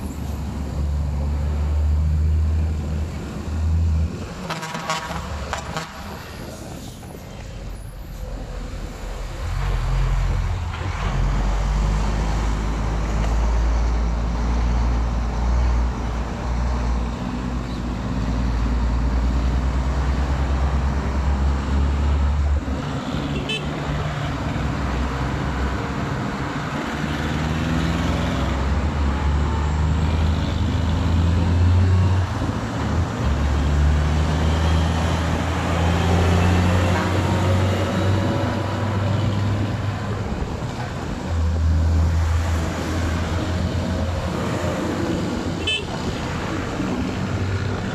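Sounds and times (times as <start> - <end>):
engine rumble from moving vehicle: 0.0 - 47.9.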